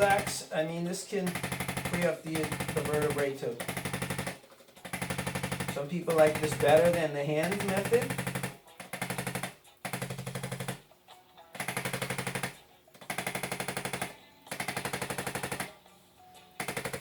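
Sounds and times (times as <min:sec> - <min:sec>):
percussion massage gun tapping: 0:00.0 - 0:00.5, 0:01.2 - 0:10.9, 0:11.6 - 0:15.8, 0:16.6 - 0:17.0.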